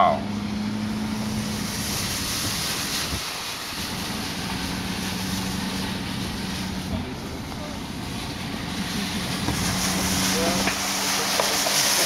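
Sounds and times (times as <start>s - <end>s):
engine humming low: 0.0s - 12.0s
rushing noise inside vehicle: 0.0s - 12.0s.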